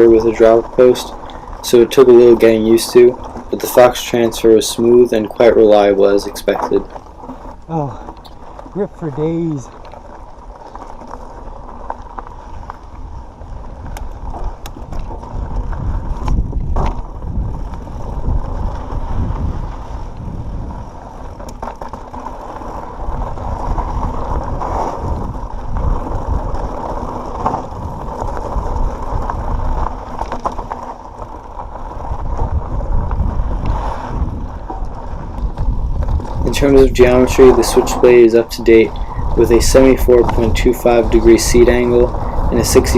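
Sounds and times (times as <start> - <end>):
bike tyre rumble on dirt: 0.0 - 42.9.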